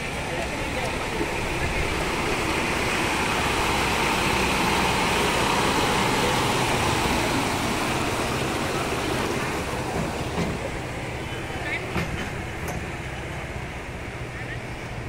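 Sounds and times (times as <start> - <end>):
truck diesel engine: 0.0 - 15.0
water splashing from wheels: 0.0 - 15.0.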